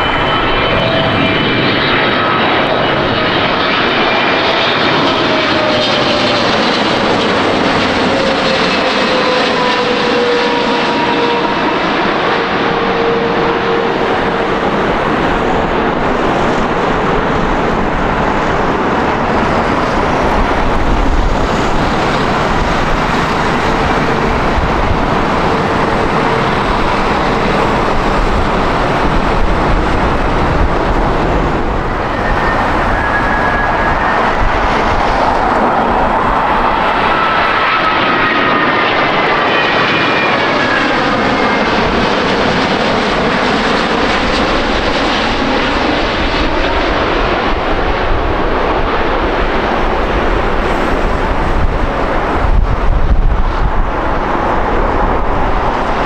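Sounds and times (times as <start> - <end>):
jet airliner roaring past: 0.0 - 56.0.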